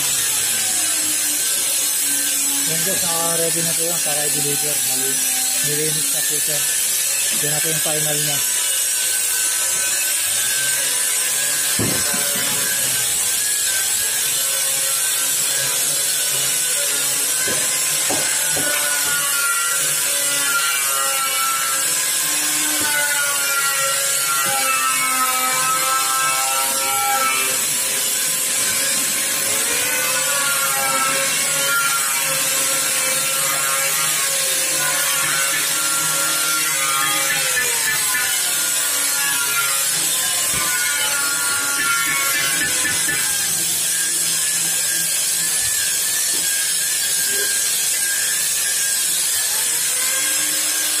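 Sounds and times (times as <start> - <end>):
angle grinder polishing steel: 0.0 - 51.0.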